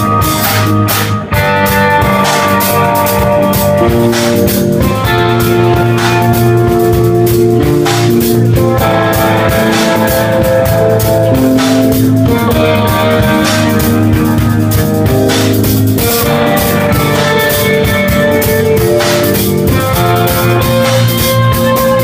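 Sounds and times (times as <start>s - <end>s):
drum kit playing a steady beat: 0.0s - 22.0s
electric guitar: 0.0s - 22.0s.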